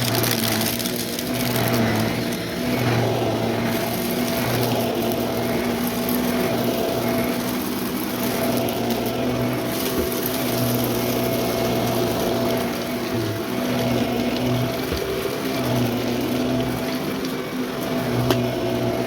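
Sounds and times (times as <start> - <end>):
vacuum cleaner motor hum: 0.0 - 19.0.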